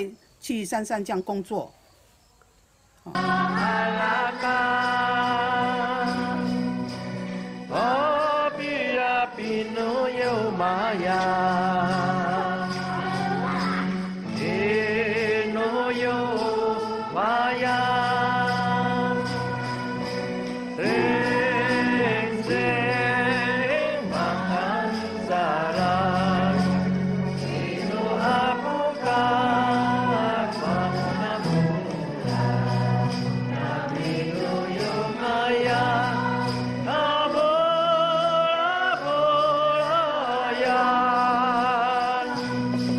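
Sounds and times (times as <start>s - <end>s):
ticking percussion: 3.0s - 42.9s
song with sung voices: 3.1s - 42.9s.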